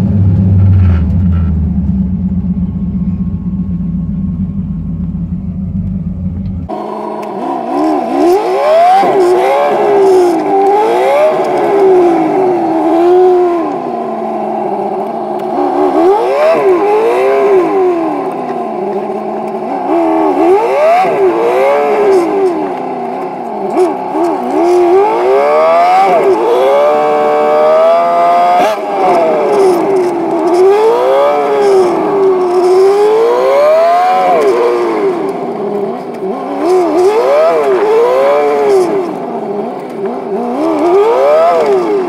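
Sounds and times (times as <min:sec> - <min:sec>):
engine revving in throttle blips: 0:00.0 - 0:03.7, 0:04.3 - 0:42.0.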